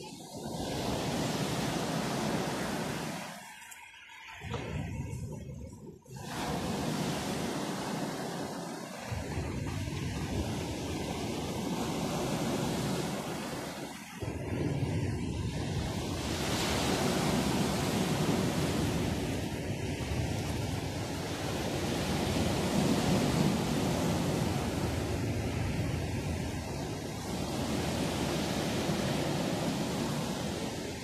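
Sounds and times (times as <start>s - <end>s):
waves washing on pebble beach: 0.0s - 5.5s, 6.1s - 31.0s.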